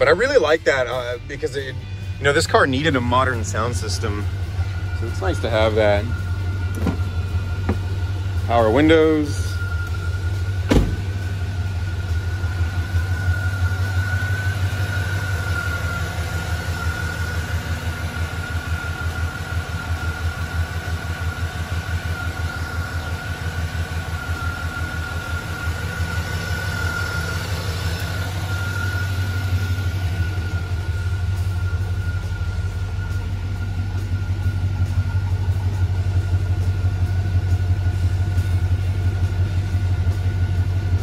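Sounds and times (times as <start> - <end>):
car engine idling: 0.0 - 41.0
thin steady whine: 0.0 - 41.0.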